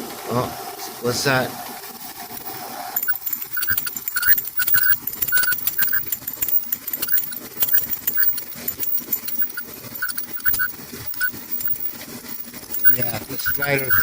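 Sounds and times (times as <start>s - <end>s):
light clicking and rattling: 2.4s - 14.0s.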